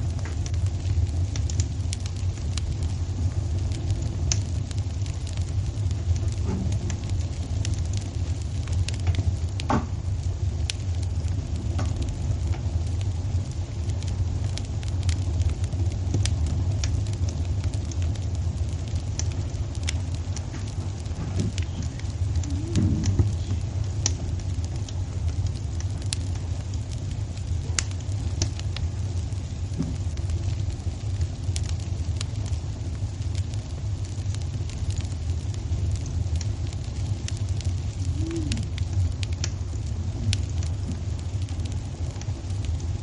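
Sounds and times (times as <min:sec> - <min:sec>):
fire crackling and popping: 0:00.0 - 0:43.0
low fire rumble: 0:00.0 - 0:43.0.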